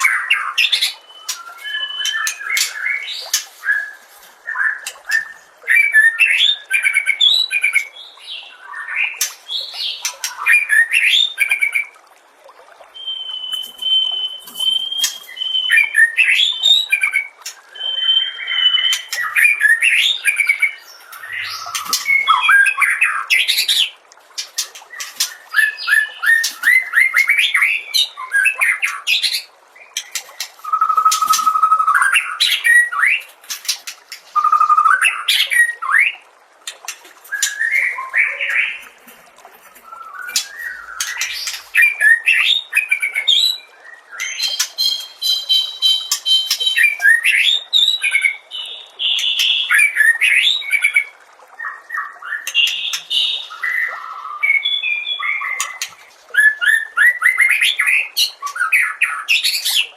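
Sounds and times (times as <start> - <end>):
bird singing varied song: 0.0 - 12.0, 12.9 - 24.0, 24.6 - 36.2, 37.3 - 39.0, 39.8 - 59.9.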